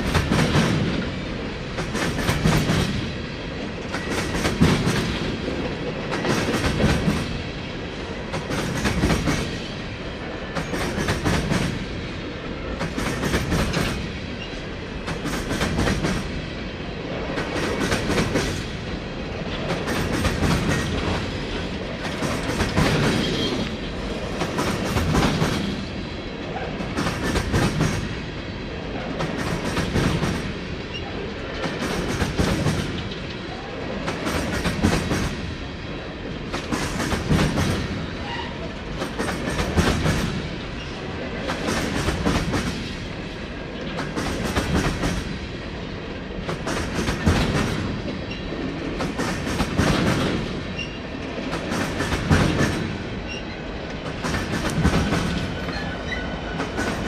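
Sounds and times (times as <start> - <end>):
wheels clacking over rail joints: 0.0 - 9.7, 10.5 - 16.4, 17.2 - 28.2, 29.0 - 35.6, 36.3 - 57.0
freight train rumbling past: 0.0 - 57.0.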